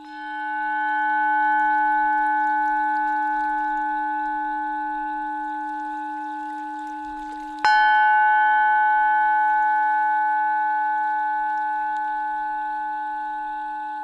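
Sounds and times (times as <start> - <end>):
low hum of deeper bowl: 0.0 - 14.0
singing bowl ringing: 0.0 - 14.0.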